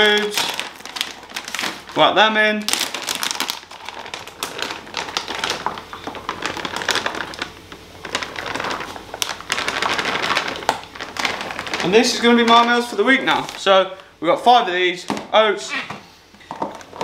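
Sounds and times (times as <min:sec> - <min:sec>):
plastic bag crinkling: 0:00.0 - 0:15.4, 0:16.5 - 0:17.0.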